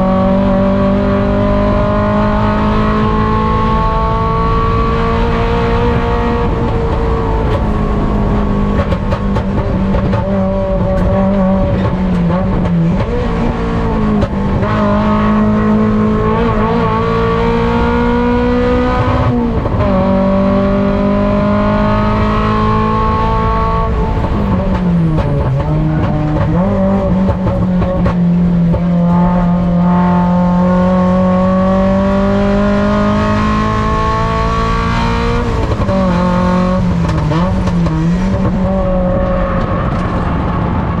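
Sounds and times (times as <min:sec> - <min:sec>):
race car engine at high revs: 0:00.0 - 0:41.0.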